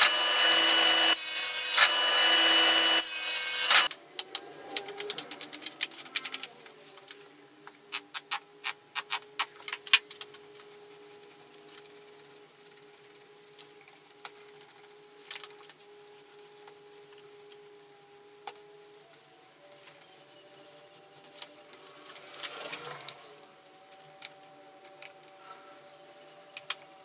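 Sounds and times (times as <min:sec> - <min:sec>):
faint hum: 0:03.7 - 0:27.0.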